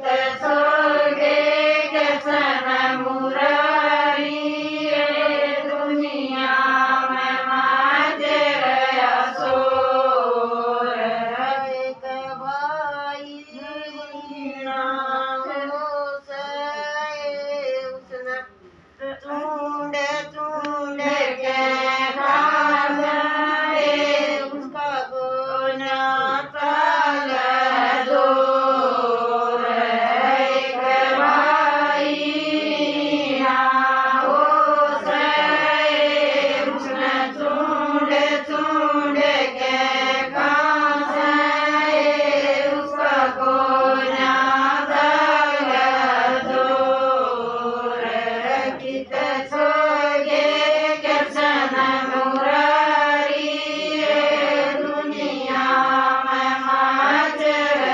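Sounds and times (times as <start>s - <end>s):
women singing devotional song: 0.0s - 57.9s.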